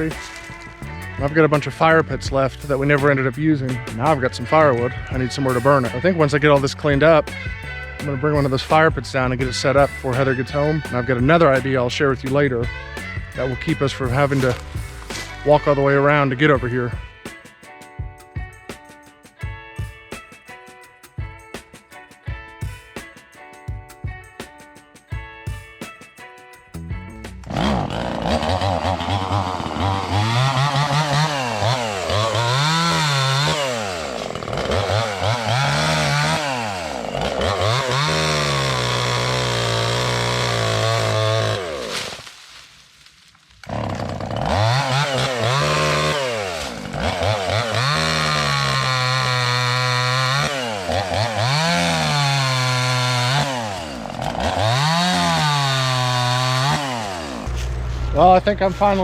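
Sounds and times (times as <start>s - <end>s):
chainsaw cutting wood: 0.0s - 17.8s, 27.1s - 58.2s.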